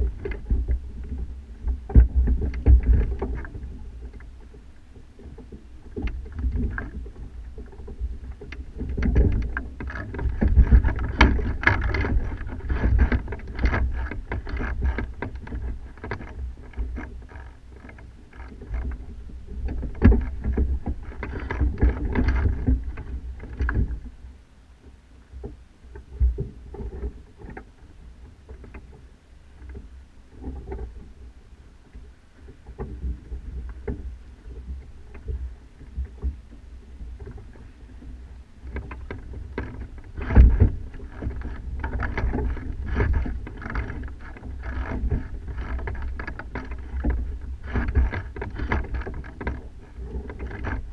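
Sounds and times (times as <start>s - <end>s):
sail flapping and fittings rattling: 0.0s - 50.9s
wind rumbling on camera: 0.0s - 50.9s.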